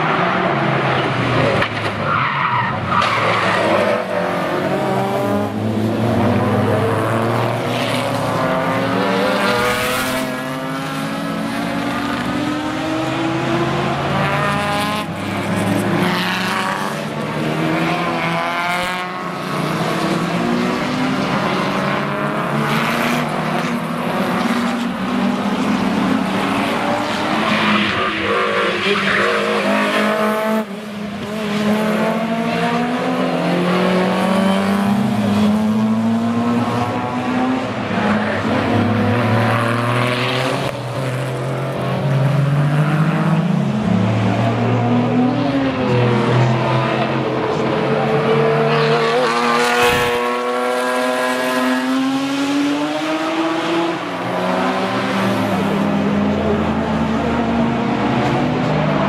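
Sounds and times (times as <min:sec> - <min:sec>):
race car engines braking and accelerating: 0:00.0 - 0:59.0.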